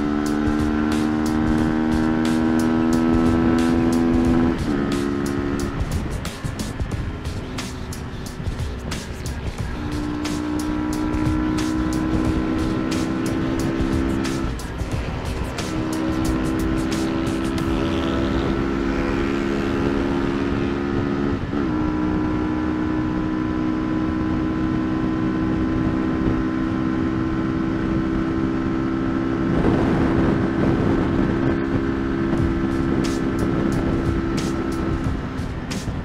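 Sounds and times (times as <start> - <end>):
motorcycle engine cruising: 0.0 - 36.0
wind rush: 0.0 - 36.0.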